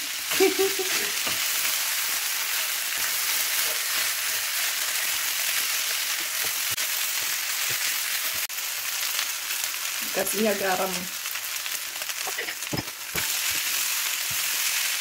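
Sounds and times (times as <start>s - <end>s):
rice sizzling in a wok: 0.0s - 15.0s.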